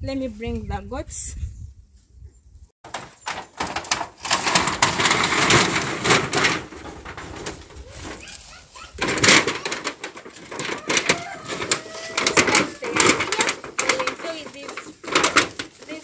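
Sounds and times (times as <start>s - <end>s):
leafy branches rustling: 2.8s - 16.0s.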